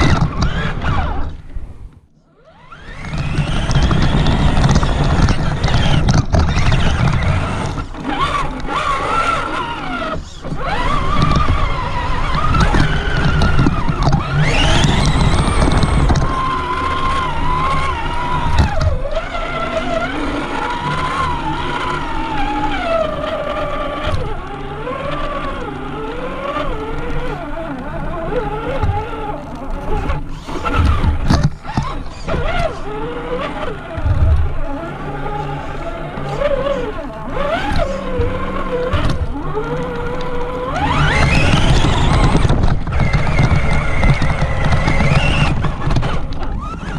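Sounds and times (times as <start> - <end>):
electric motor and gearbox whining: 0.0 - 46.9
low rumble over rough ground: 0.0 - 46.9.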